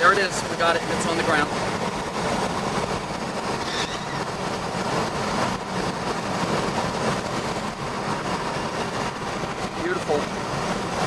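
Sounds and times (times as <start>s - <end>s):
road and wind noise in car: 0.0s - 11.0s
tyres hissing on wet road: 0.0s - 11.0s.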